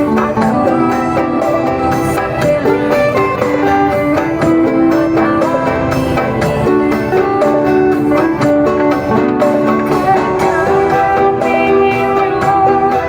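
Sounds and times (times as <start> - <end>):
plucked string melody: 0.0 - 13.0
steady beat: 0.0 - 13.0.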